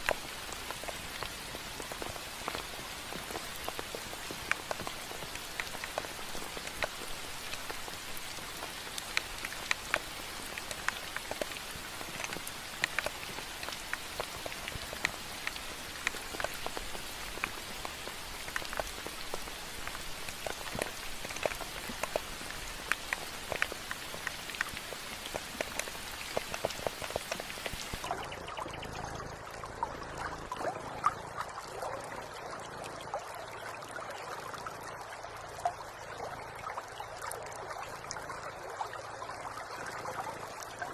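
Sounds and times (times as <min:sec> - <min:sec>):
rain falling on a surface: 0:00.0 - 0:40.9
water trickling: 0:00.0 - 0:40.9.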